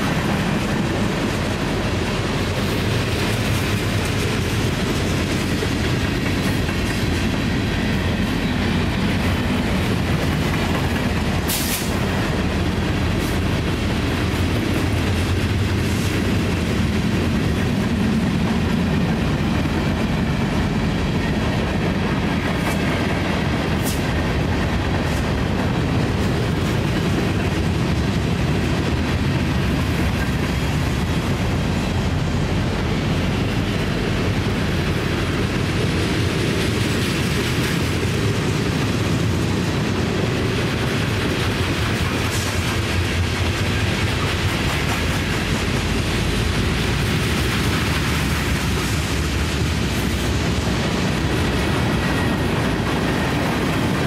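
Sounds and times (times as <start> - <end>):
train wheels rumbling and rattling: 0.0 - 54.0.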